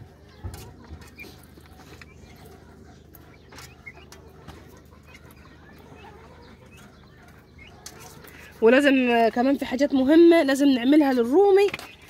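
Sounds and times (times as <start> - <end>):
soft chirps and clucks: 0.0 - 12.0.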